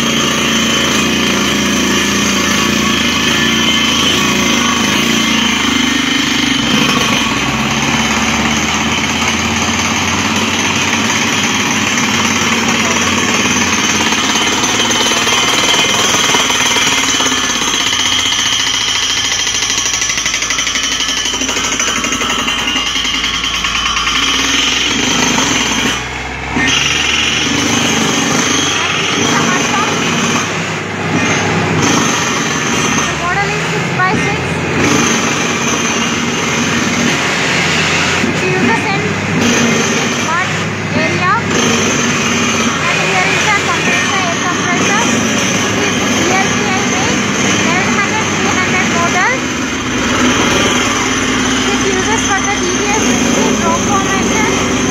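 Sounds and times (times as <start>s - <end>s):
air hammer drilling rock: 0.0s - 54.9s
drilling rig engine and compressor: 0.0s - 54.9s.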